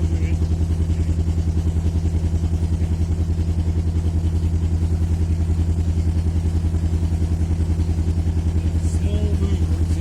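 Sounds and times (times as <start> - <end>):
diesel engine throbbing: 0.0 - 10.0.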